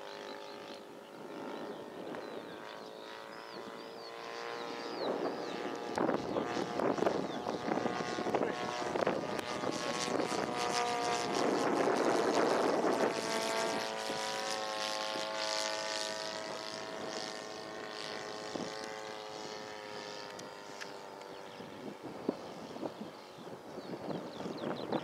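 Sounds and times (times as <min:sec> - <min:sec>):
model plane engine droning: 0:00.0 - 0:25.0.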